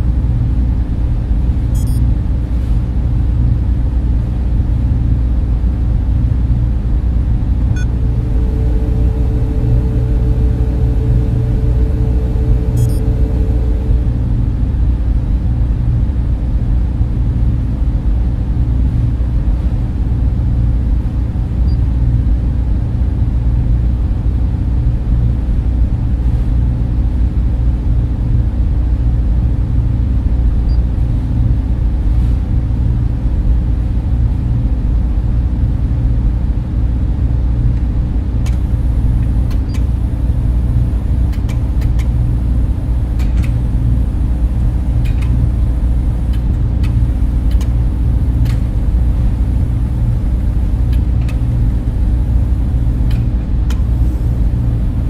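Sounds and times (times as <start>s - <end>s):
cooling fans droning: 0.0s - 55.0s.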